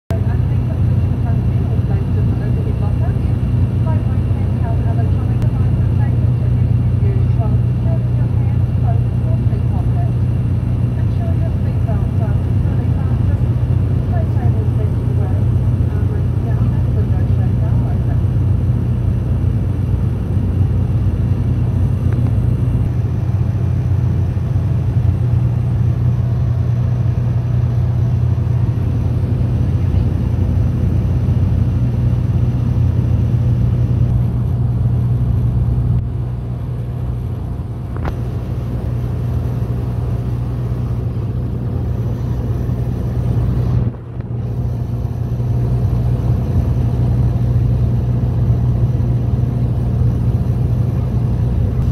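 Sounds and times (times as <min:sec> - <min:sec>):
turboprop engine drone in cabin: 0:00.0 - 0:51.9.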